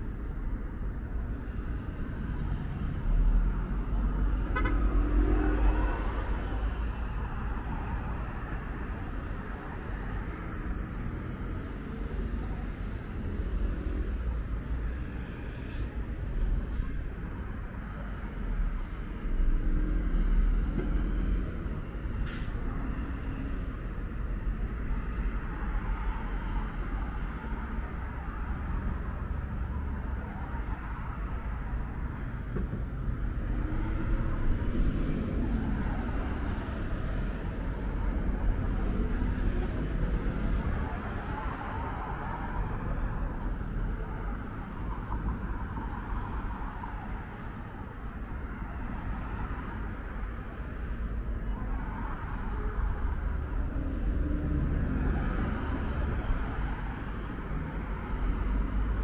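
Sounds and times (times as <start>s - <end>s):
bus passing: 0.0s - 59.0s
cars passing on busy street: 0.0s - 59.0s.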